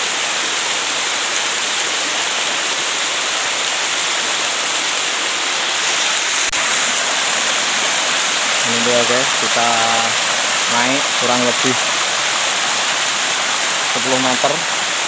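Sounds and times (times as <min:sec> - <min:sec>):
small waterfall splashing: 0:00.0 - 0:15.0.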